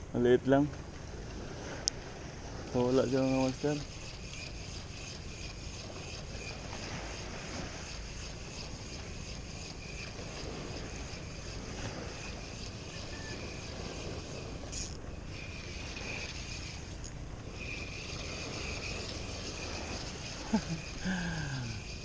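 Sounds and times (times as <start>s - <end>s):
wind rumbling on microphone: 0.0s - 22.0s
faint high-pitched drone: 2.7s - 22.0s.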